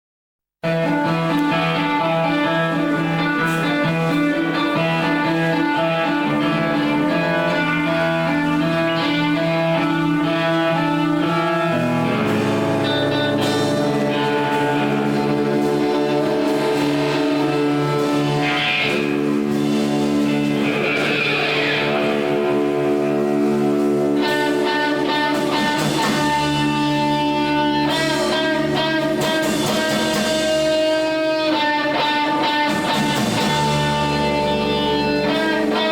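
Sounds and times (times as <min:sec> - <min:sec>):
guitar rock music: 0:00.6 - 0:35.9.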